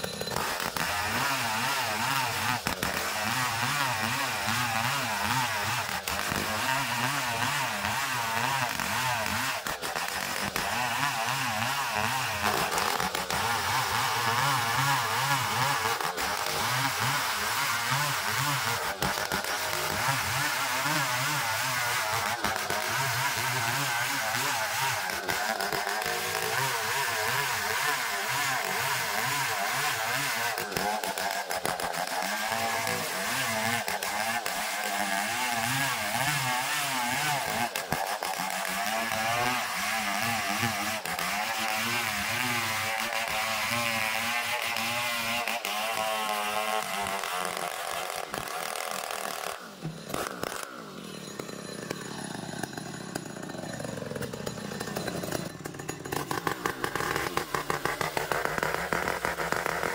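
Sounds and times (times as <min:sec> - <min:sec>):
engine-driven saw cutting wood: 0:00.0 - 0:59.9.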